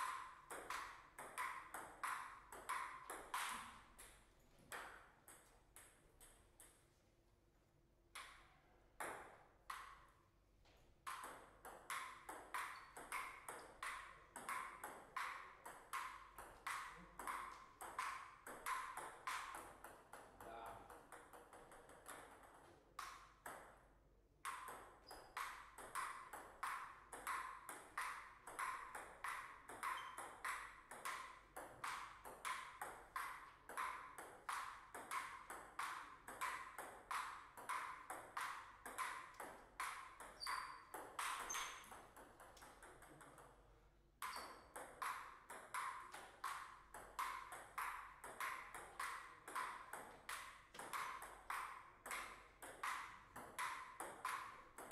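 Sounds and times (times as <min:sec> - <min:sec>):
table tennis ball clicking: 0:00.0 - 0:06.8, 0:08.1 - 0:10.1, 0:11.1 - 0:23.8, 0:24.4 - 0:43.6, 0:44.2 - 0:54.9.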